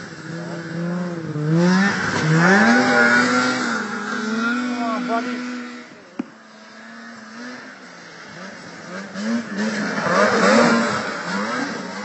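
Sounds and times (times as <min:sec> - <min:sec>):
snowmobile engine revving past: 0:00.0 - 0:12.0.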